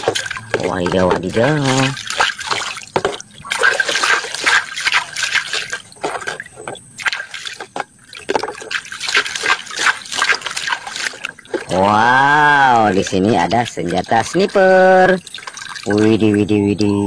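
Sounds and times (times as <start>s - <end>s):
water splashing and trickling: 0.0s - 17.0s.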